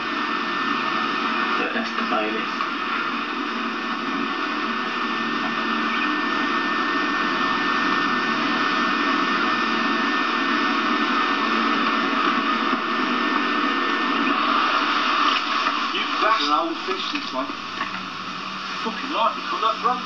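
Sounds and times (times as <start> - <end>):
faint hum: 0.0 - 20.0
steady hiss: 0.0 - 20.0.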